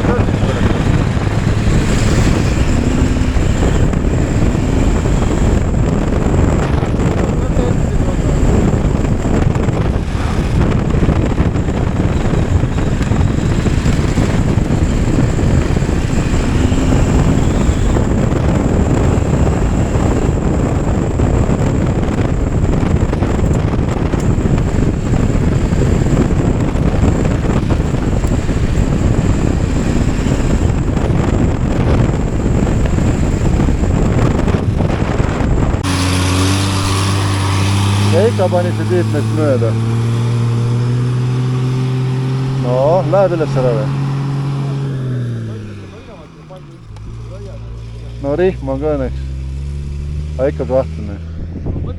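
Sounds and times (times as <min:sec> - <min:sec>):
motorcycle engine running: 0:00.0 - 0:51.9
wind on microphone: 0:00.0 - 0:51.9.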